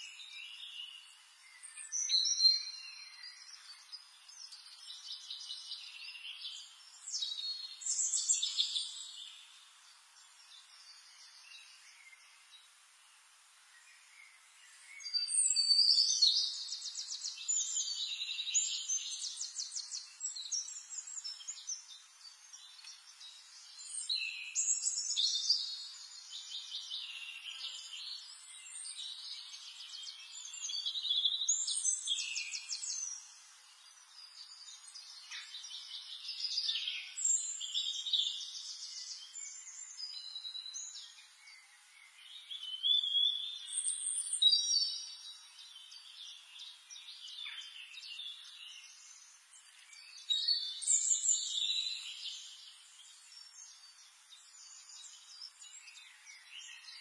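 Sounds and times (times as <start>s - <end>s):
songbird trills and chirps: 0.0s - 57.0s.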